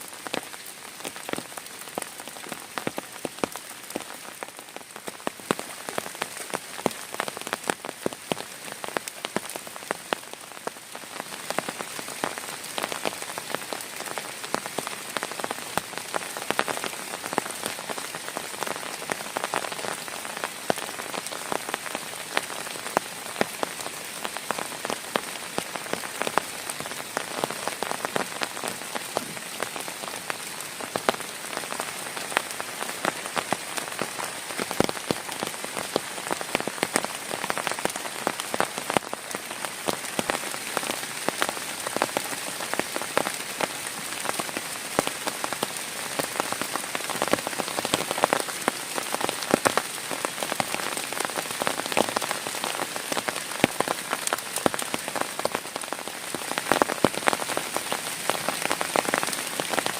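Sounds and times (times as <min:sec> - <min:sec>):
heavy rain falling: 0:00.0 - 0:59.9
raindrops pattering on a surface: 0:00.0 - 0:59.9.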